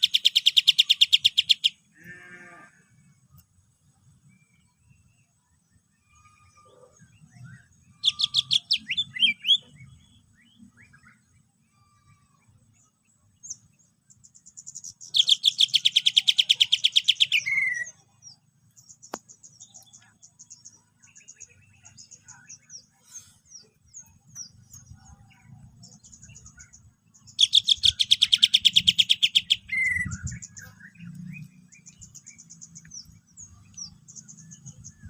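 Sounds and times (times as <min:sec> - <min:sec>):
bird singing with fast trill: 0:00.0 - 0:01.9, 0:04.2 - 0:35.0.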